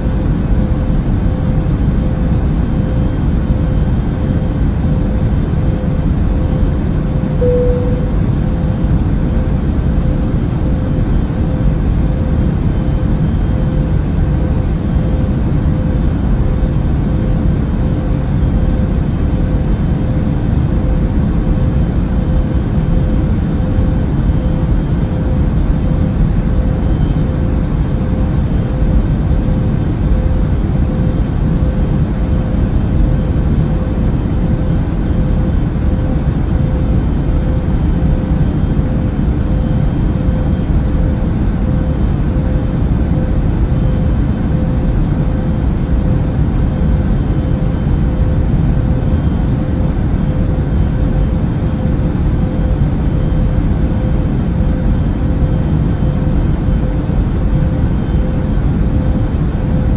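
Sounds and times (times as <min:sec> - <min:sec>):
constant hum: 0:00.0 - 0:59.9
low rumble of aircraft engines: 0:00.0 - 0:59.9.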